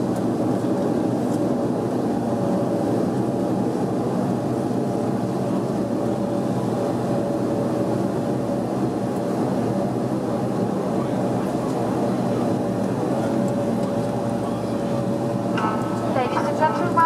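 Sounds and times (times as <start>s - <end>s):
turboprop engines droning: 0.0s - 17.0s
faint steady hum: 2.7s - 17.0s.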